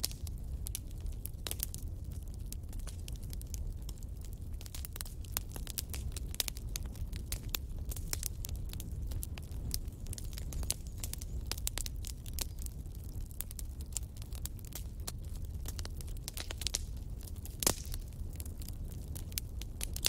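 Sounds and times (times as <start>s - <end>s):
fire crackling and popping: 0.0s - 20.0s
low rumble of fire: 0.0s - 20.0s.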